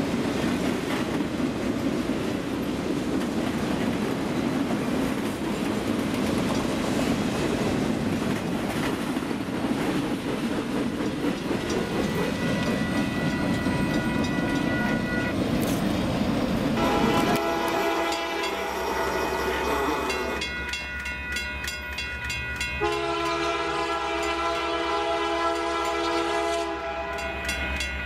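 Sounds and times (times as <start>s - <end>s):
freight train rumbling past: 0.0s - 28.0s.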